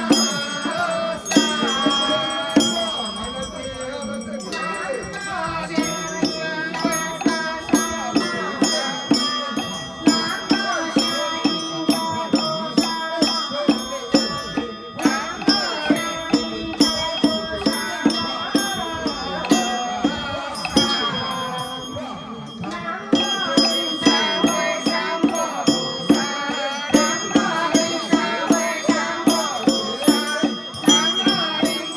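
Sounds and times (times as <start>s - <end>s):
bells: 0.0s - 31.9s
percussion strikes: 0.0s - 31.9s.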